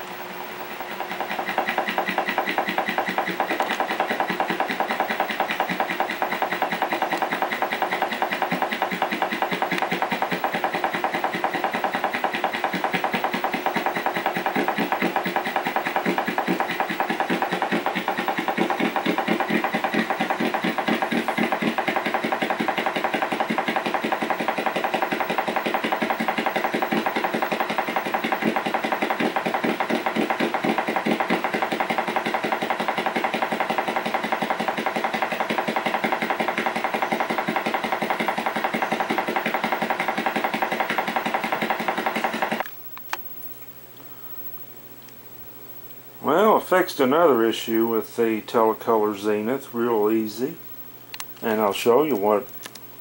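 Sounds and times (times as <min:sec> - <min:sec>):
buzzing drone from tv speaker: 0:00.0 - 0:53.0.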